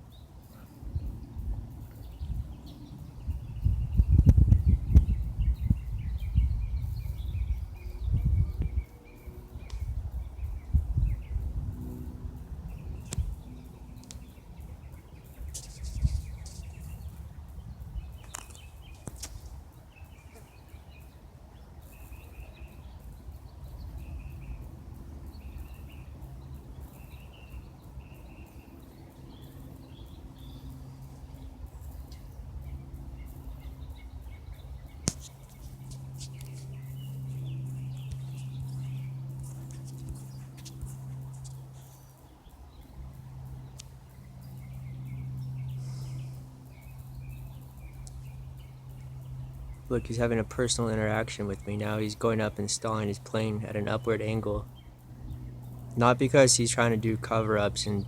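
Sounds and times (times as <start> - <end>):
light plane engine droning: 0.0 - 58.0
small birds chirping: 0.0 - 58.0.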